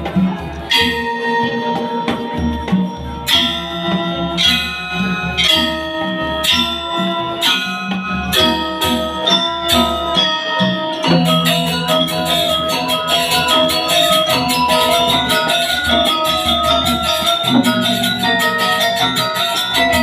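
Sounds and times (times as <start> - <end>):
gamelan playing: 0.0 - 20.0.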